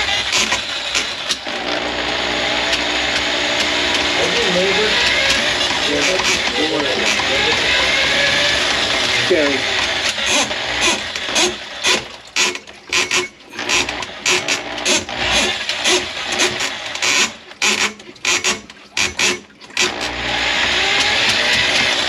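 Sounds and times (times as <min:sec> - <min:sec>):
electric drain snake rattling: 0:00.0 - 0:22.0.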